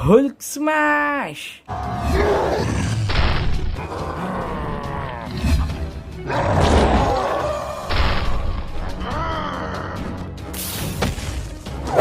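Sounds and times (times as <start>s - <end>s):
action soundtrack music: 1.7s - 12.0s.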